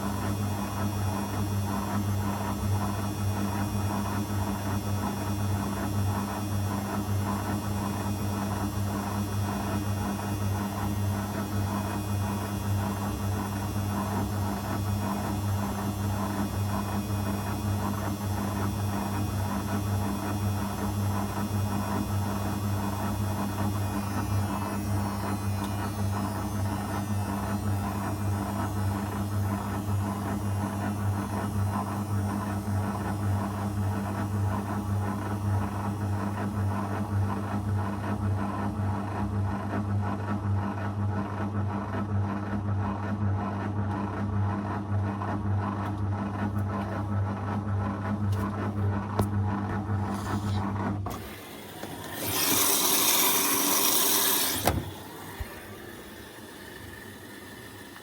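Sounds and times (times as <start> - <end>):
washing machine hum: 0.0 - 58.0.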